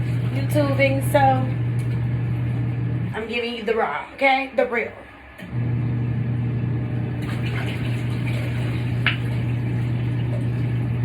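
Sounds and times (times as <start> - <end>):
water churning in tub: 0.0 - 3.9, 5.4 - 11.0
washing machine motor humming: 0.0 - 11.0.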